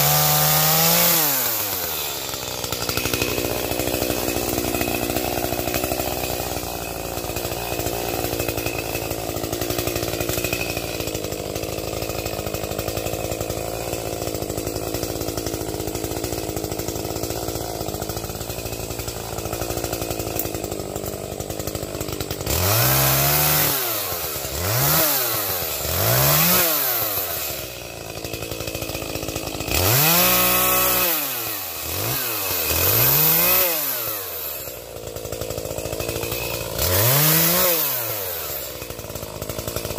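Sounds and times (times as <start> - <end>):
chainsaw running and revving: 0.0 - 39.9.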